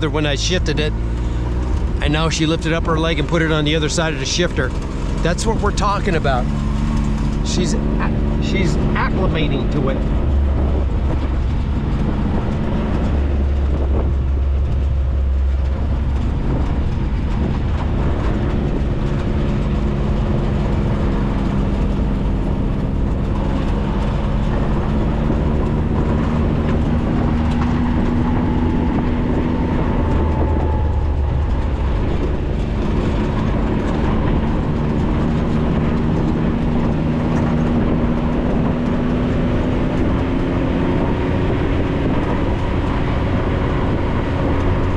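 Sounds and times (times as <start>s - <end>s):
low rumble: 0.0s - 44.9s
off-road vehicle engine droning: 0.0s - 44.9s.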